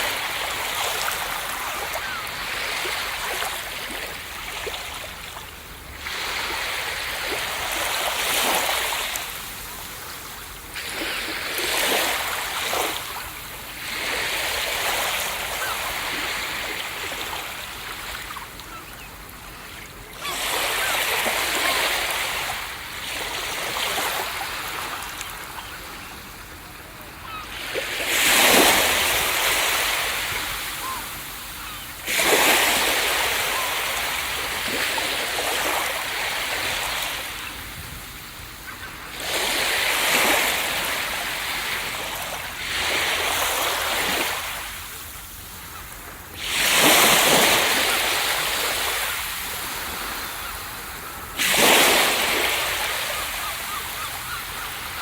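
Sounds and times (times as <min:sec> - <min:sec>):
ocean waves crashing on beach: 0:00.0 - 0:55.0.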